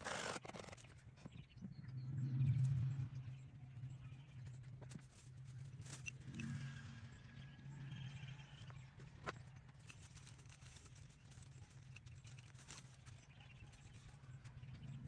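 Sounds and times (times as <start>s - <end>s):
low steady hum: 0.7s - 15.0s.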